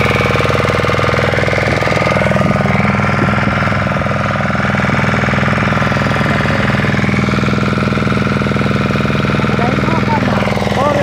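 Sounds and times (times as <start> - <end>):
boat motor chugging: 0.0 - 11.0.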